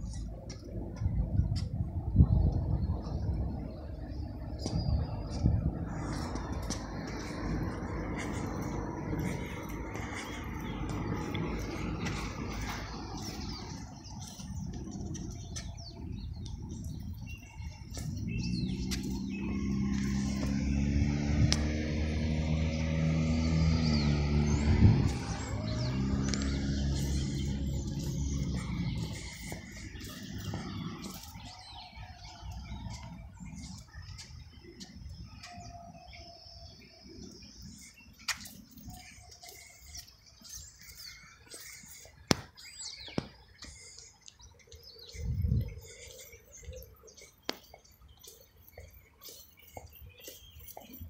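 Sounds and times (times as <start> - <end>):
low engine drone: 0.0 - 51.0.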